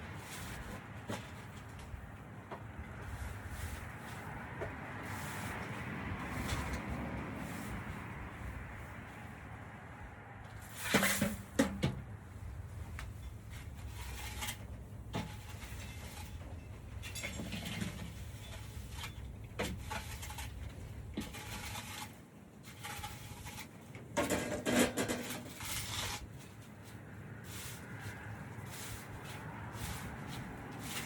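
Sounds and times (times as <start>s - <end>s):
pooper-scooper scraping ground: 0.0s - 9.0s, 10.5s - 31.0s.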